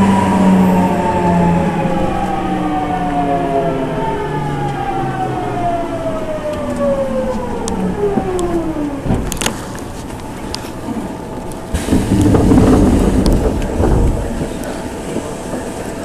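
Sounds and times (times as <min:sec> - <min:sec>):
train motors whining: 0:00.0 - 0:16.0.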